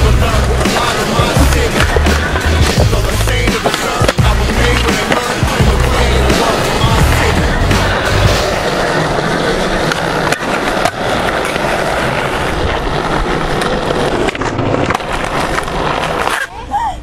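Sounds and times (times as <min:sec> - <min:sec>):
skateboard clacks: 0:00.0 - 0:17.0
skateboard wheels rolling on concrete: 0:00.0 - 0:17.0.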